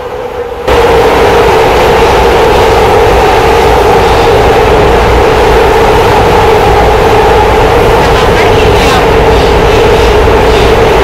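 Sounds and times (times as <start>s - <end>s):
droning wheels and motors: 0.0s - 11.0s
train car rumbling: 0.0s - 11.0s.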